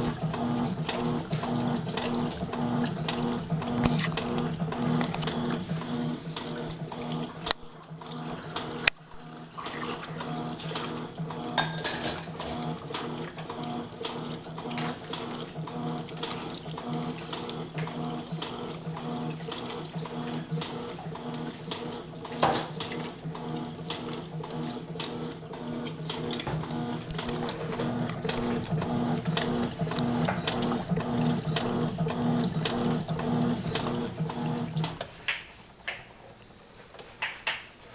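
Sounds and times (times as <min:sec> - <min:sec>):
washing machine motor hum: 0:00.0 - 0:37.9.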